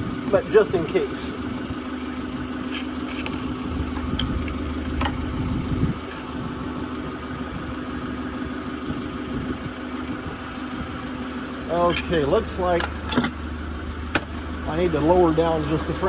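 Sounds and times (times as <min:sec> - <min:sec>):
forklift engine idling: 0:00.0 - 0:16.0.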